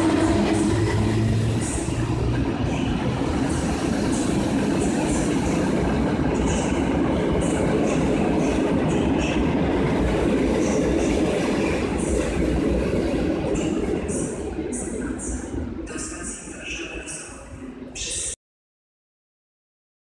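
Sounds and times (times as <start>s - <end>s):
train wheels rumbling on rail: 0.0s - 17.3s.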